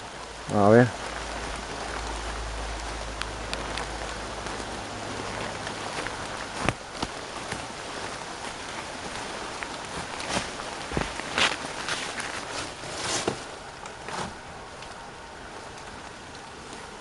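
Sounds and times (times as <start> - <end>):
rain on leaves: 0.0 - 17.0
water dripping: 0.0 - 17.0.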